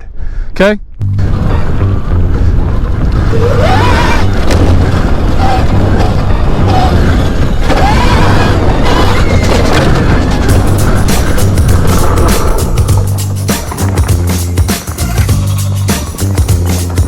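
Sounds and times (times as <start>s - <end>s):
wind rumble on microphone: 1.0s - 15.4s.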